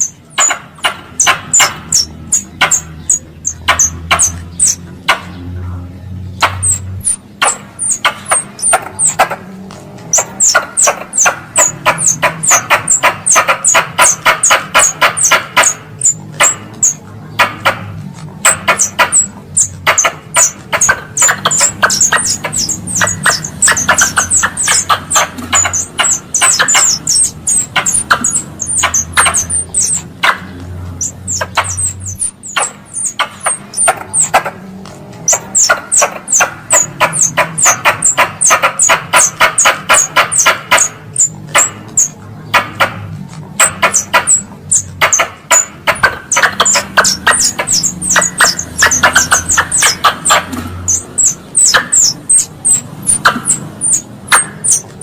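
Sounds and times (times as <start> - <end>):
squirrel call chattering chirps: 0.0 - 5.6, 6.3 - 43.0, 43.6 - 55.0.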